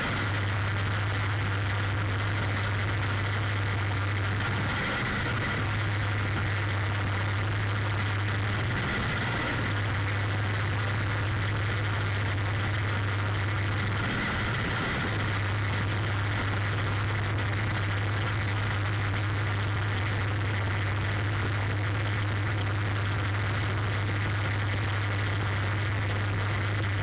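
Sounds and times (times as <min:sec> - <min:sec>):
tractor engine drone: 0:00.0 - 0:27.0.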